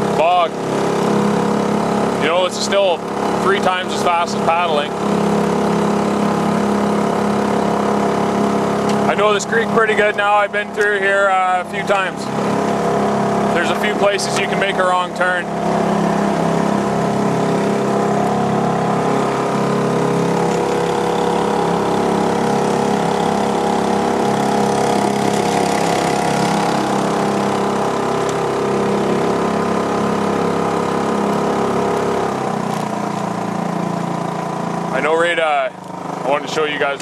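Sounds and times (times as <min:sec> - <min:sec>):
small outboard motor running: 0:00.0 - 0:37.0.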